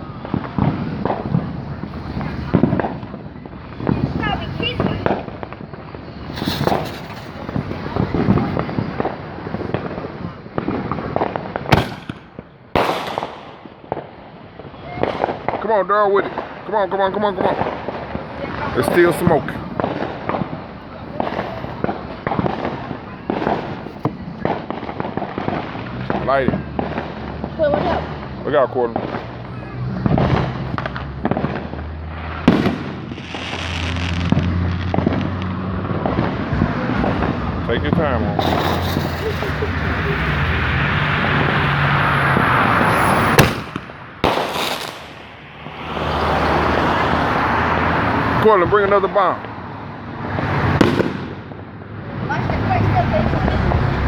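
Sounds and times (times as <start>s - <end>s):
fireworks crackling pops: 0.0s - 54.0s
loud firework bangs: 0.0s - 54.0s.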